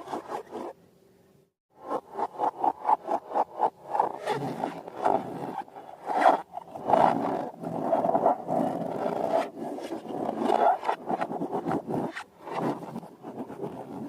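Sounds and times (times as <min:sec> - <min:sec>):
rubbery scraping and squishing: 0:00.0 - 0:00.8, 0:01.8 - 0:14.0.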